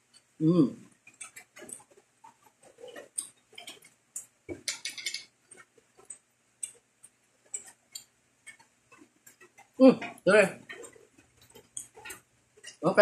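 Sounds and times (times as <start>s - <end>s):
chewing crispy food: 0.0s - 12.8s.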